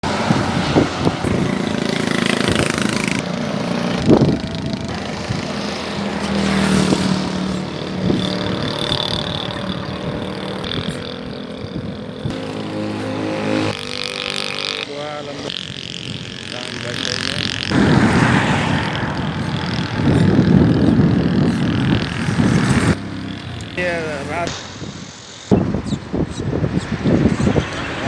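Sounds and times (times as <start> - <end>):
vehicle engine running: 0.0 - 25.4
outdoor noise: 0.0 - 28.0.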